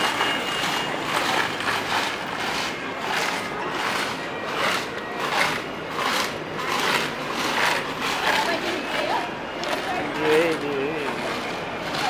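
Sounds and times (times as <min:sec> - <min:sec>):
general hubbub: 0:00.0 - 0:12.0
traffic running past: 0:00.0 - 0:12.0.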